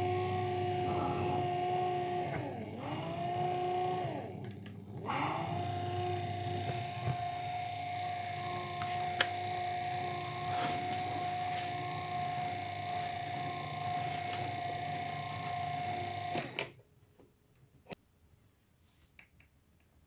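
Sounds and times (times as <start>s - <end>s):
electric motor whining: 0.0s - 16.8s.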